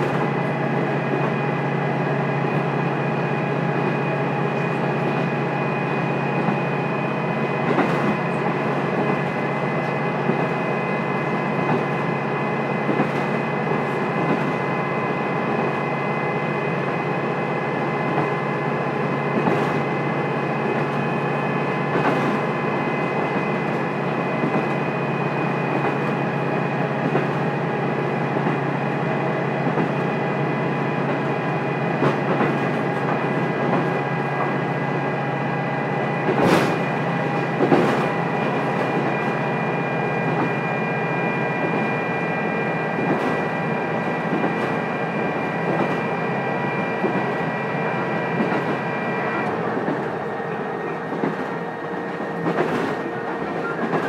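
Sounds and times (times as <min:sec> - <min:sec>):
diesel engine drone with whine: 0:00.0 - 0:54.0.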